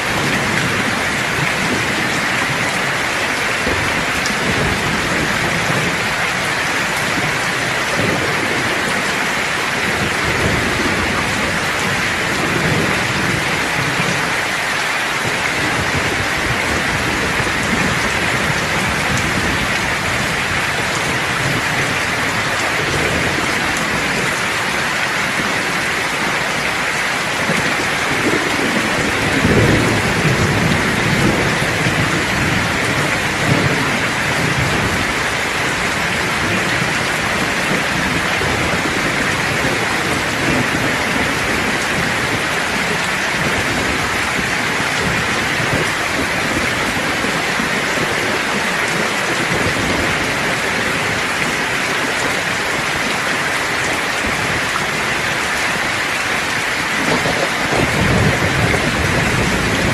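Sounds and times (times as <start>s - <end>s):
heavy rain hissing: 0.0s - 59.9s
thunder rumbling: 0.0s - 59.9s.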